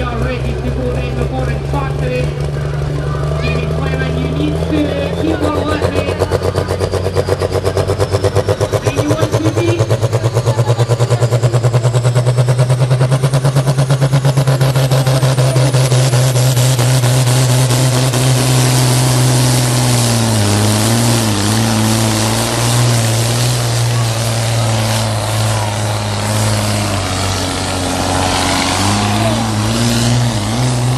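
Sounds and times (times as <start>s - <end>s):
tractor engine running loud: 0.0s - 30.9s.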